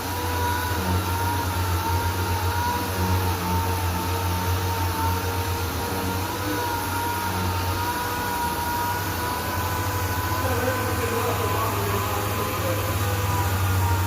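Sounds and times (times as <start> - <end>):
power sander whining: 0.0 - 14.0.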